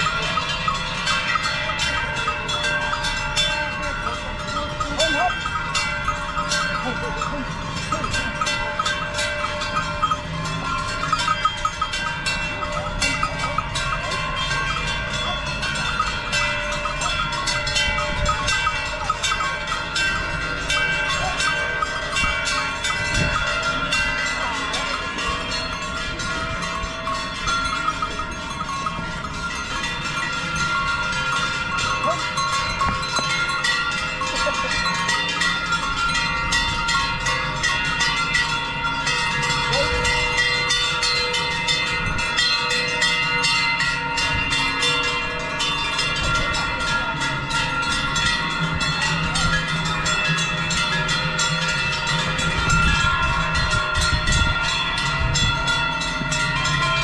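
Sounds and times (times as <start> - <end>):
cowbells clanging: 0.0 - 57.0.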